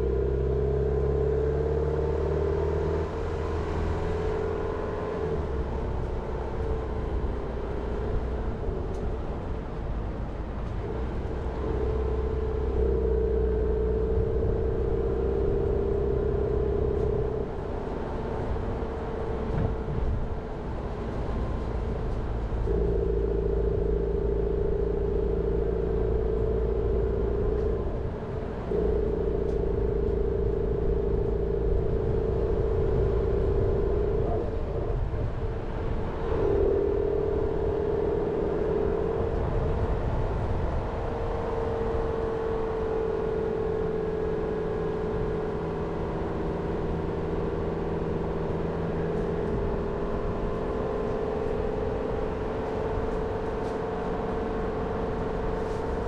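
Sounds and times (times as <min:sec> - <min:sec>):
car engine drone: 0:00.0 - 0:56.0
low road rumble: 0:00.0 - 0:56.0.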